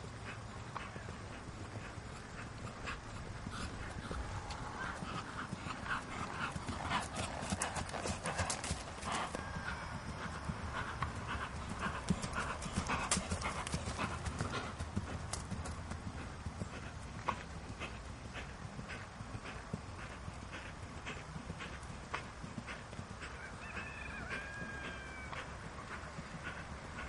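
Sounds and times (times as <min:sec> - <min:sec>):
horse hoofbeats on grass: 0:00.0 - 0:27.0.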